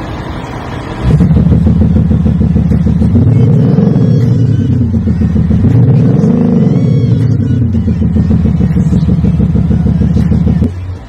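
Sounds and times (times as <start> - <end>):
car exhaust revving and idling: 0.0 - 11.0.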